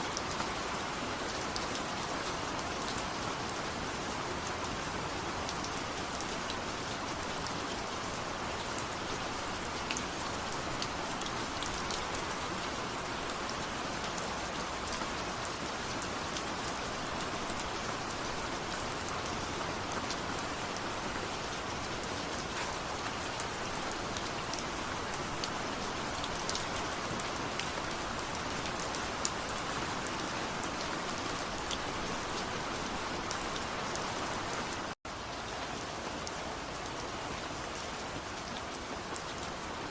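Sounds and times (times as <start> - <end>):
rain drops ticking on a surface: 0.0 - 39.9.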